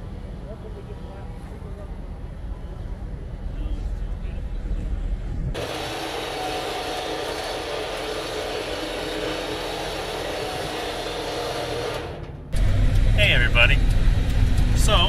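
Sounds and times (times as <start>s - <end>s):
mechanical rushing noise with hum: 0.0s - 15.0s.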